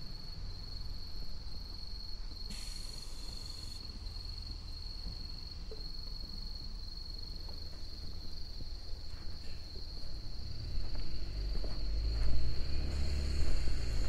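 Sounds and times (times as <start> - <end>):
insects trilling: 0.2 - 14.0.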